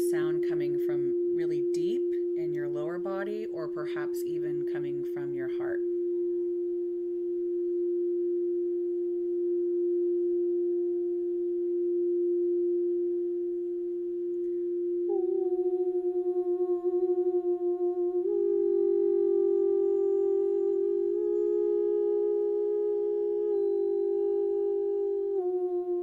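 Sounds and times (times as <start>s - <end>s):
second wavering tone: 0.0s - 26.0s
singing bowl tone: 0.0s - 26.0s.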